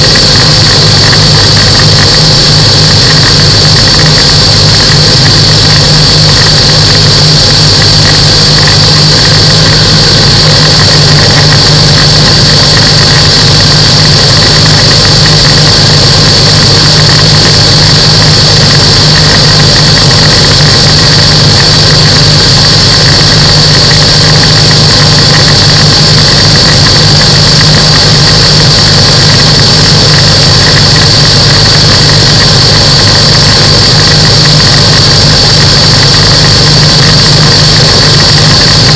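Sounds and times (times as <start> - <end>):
aircraft engine and propeller drone: 0.0 - 38.9
steady high whine: 0.0 - 38.9.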